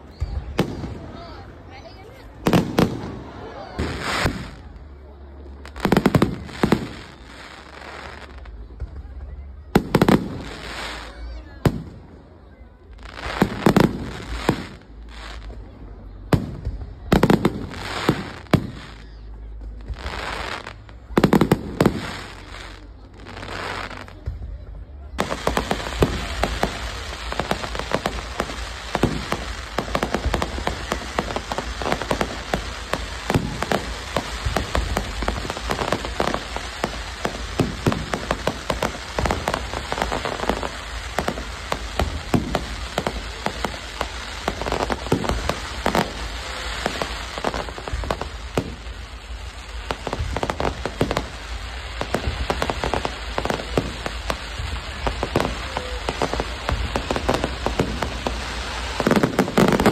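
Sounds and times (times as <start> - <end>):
fireworks crackling: 0.0 - 59.9
loud fireworks bangs: 0.0 - 59.9.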